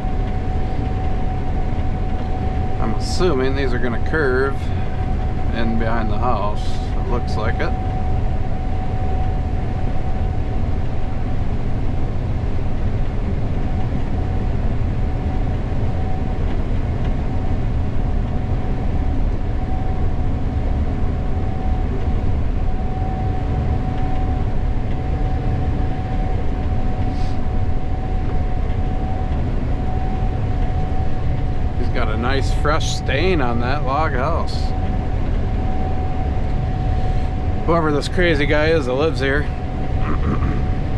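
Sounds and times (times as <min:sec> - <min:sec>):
combine engine and threshing rumble: 0:00.0 - 0:40.9
high whine: 0:00.0 - 0:40.9.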